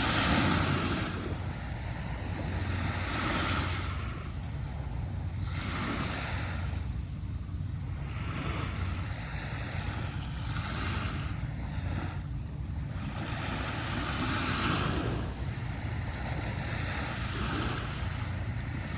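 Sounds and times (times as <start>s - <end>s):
small waves breaking on beach: 0.0s - 18.9s
steady low rumble: 0.0s - 18.9s.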